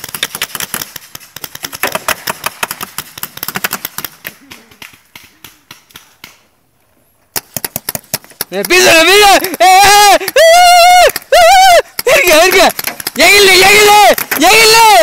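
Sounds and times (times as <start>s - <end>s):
paintball markers firing: 0.0s - 6.5s, 7.3s - 15.0s.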